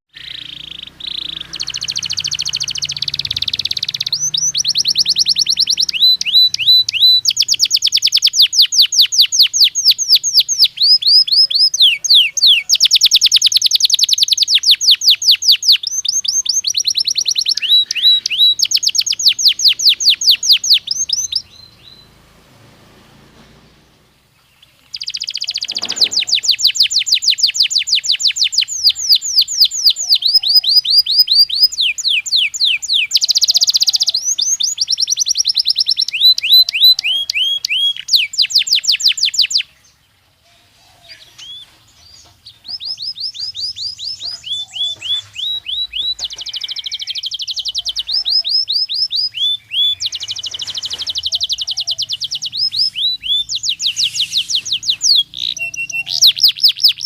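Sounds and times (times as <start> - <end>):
canary singing trills: 0.1 - 57.0.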